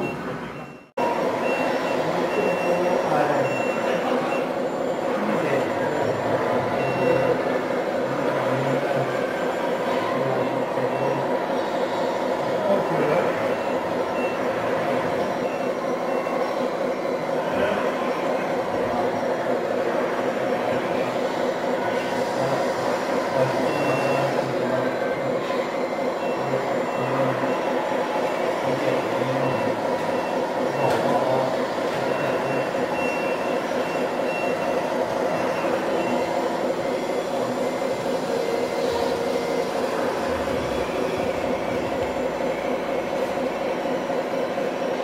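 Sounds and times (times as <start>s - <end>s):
diesel engine hum: 0.0s - 45.0s.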